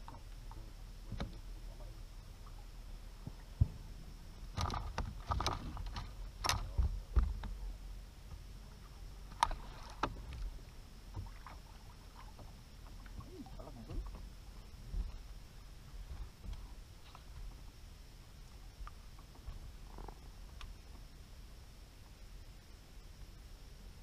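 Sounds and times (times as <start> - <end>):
low rumble: 0.0 - 23.2
water lapping against a hull: 0.0 - 24.0.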